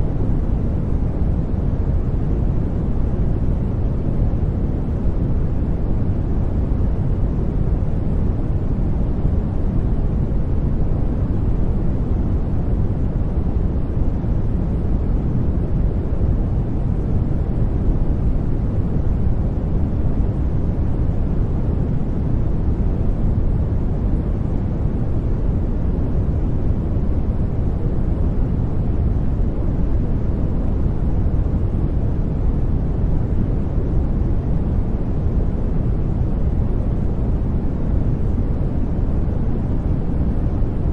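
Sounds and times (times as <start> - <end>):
low rushing white noise: 0.0 - 40.9.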